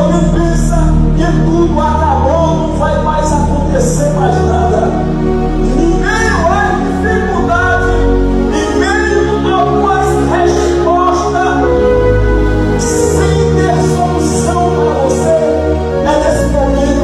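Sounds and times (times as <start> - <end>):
music with singing: 0.0 - 17.0.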